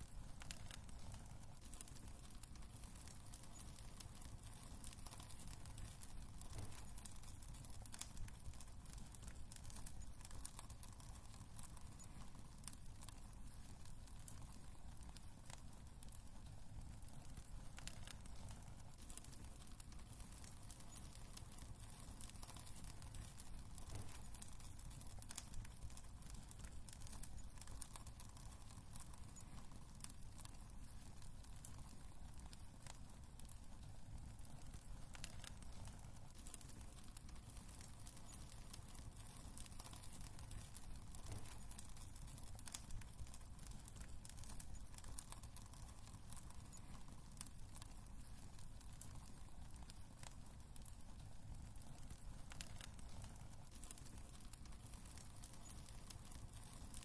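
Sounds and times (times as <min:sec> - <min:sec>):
low rumble of burning: 0:00.0 - 0:57.0
wood fire crackling: 0:00.0 - 0:57.0
sharp pops and snaps: 0:00.1 - 0:57.0.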